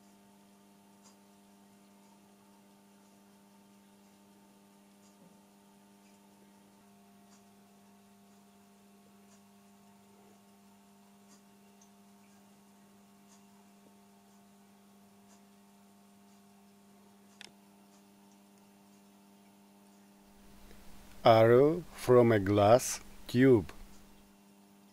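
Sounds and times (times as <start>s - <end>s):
faint ticks: 0.0s - 21.3s
faint mains hum: 0.0s - 24.9s.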